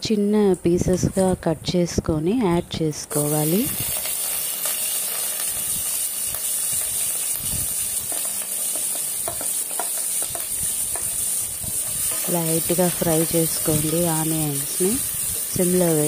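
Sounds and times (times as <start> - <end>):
onions sizzling in hot oil: 2.6 - 16.0.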